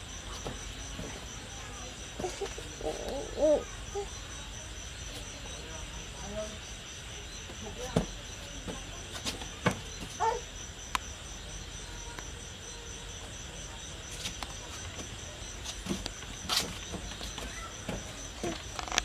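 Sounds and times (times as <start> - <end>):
insects chirping in a trill: 0.0 - 19.0.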